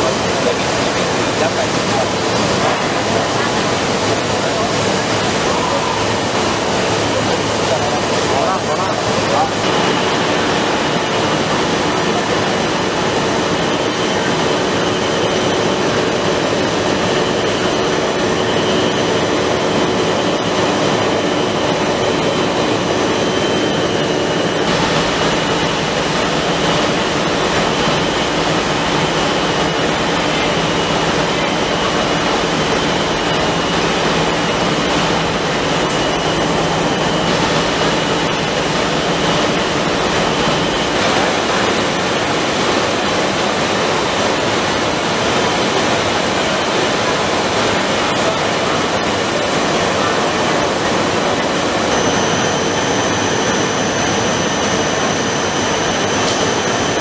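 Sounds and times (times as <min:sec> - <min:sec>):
rushing hum of blowers and motors: 0:00.0 - 0:57.0.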